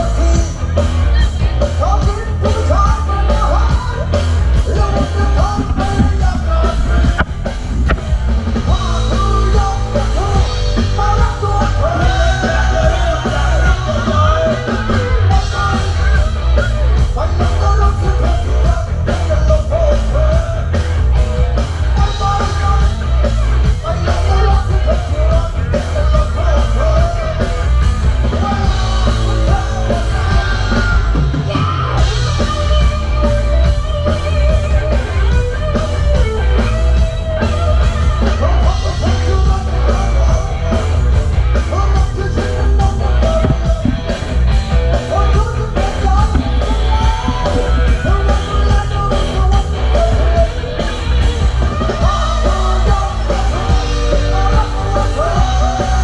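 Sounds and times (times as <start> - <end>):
loud rock music with singing: 0.0 - 56.0.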